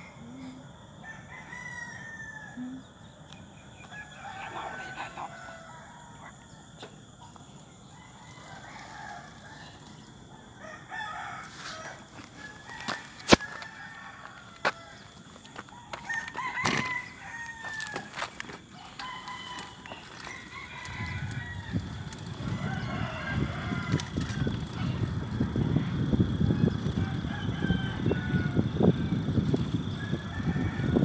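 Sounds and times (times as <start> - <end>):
roosters crowing: 0.0 - 2.9, 3.6 - 31.0.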